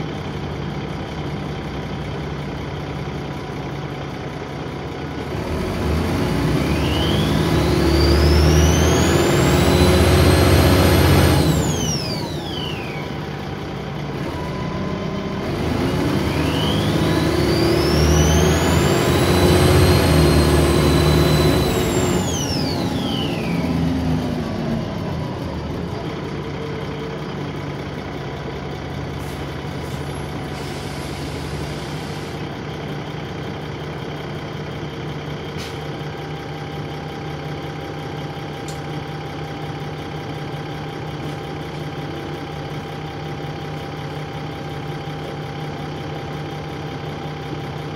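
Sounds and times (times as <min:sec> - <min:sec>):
bus engine hum: 0:00.0 - 0:47.9
bus engine turbo whine: 0:00.0 - 0:47.9.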